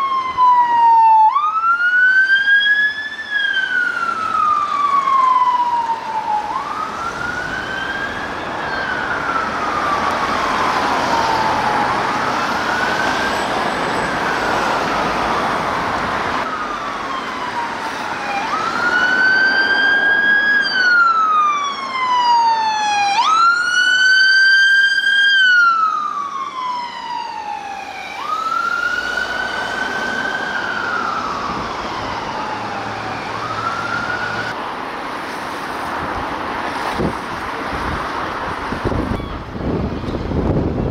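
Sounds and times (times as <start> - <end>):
emergency siren wailing: 0.0 - 34.8, 36.7 - 40.9
vehicle and road noise: 0.0 - 40.9.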